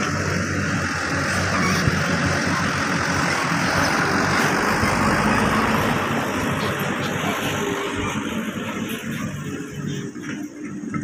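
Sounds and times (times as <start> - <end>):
excavator diesel engine running: 0.0 - 11.0
trucks idling: 0.0 - 11.0.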